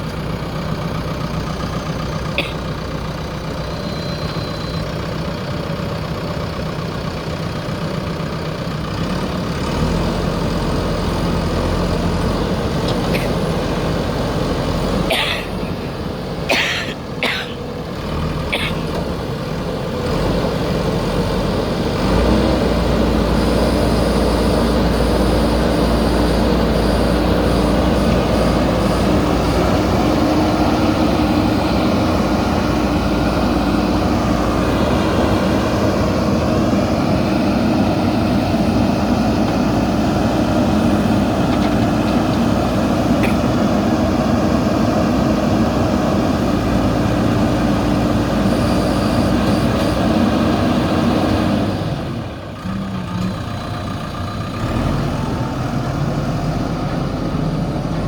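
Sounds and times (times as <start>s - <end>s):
diesel engine working: 0.0s - 58.0s.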